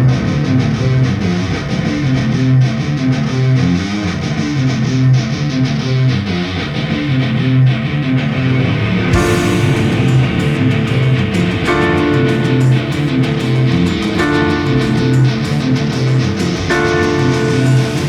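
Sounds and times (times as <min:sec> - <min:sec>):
low electric guitar riff: 0:00.0 - 0:18.0
rock band music: 0:00.0 - 0:18.0.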